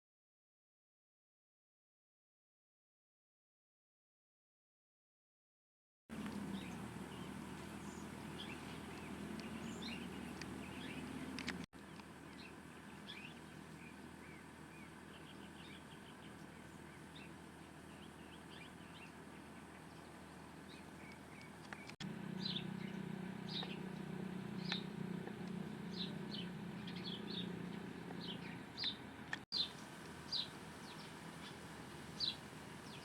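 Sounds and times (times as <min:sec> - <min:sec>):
low steady hum: 0:06.1 - 0:33.0
small birds chirping: 0:06.1 - 0:33.0.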